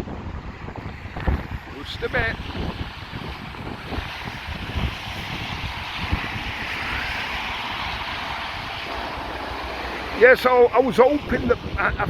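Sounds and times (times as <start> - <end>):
hiss of wind and sea: 0.0 - 12.0
wind buffeting microphone: 0.0 - 12.0.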